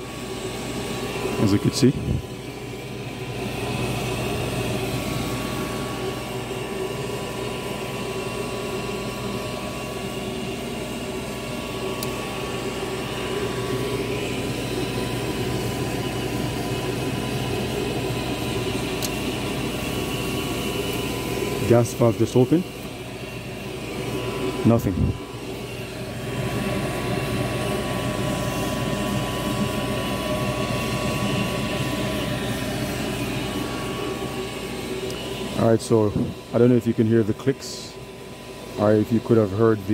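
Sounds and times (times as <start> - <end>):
furnace motor humming: 0.0 - 39.9.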